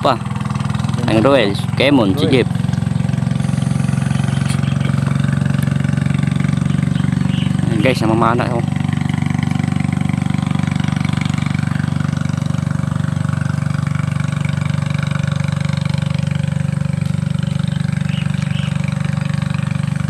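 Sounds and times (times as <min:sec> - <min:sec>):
small engine running steadily: 0:00.0 - 0:20.0.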